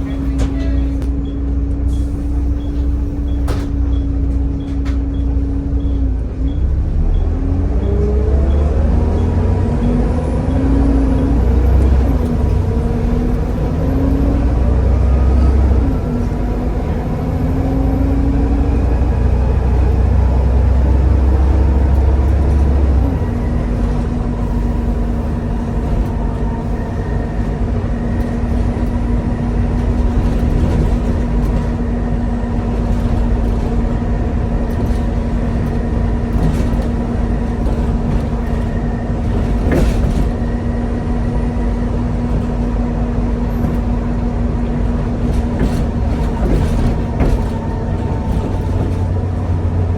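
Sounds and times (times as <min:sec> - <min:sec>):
diesel bus engine pulling: 0:00.0 - 0:49.9.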